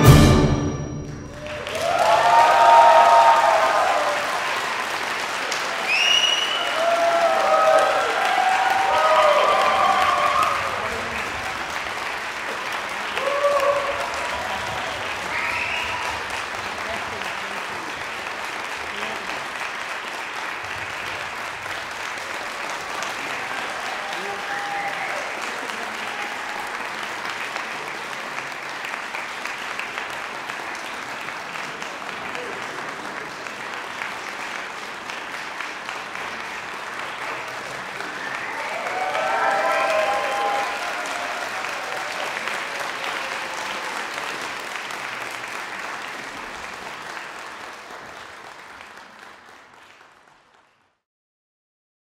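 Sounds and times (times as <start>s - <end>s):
audience applauding: 1.0s - 51.0s.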